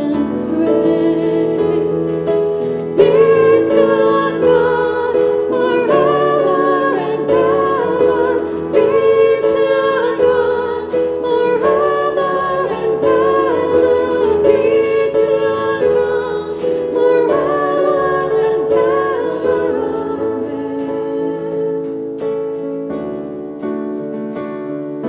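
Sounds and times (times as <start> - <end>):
women singing: 0.0 - 22.4
acoustic guitar: 0.0 - 25.0.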